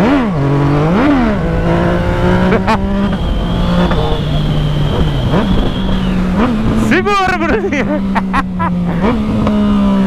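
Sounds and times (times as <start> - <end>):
motorcycle engine revving: 0.0 - 10.0
wind rumble: 0.4 - 9.9.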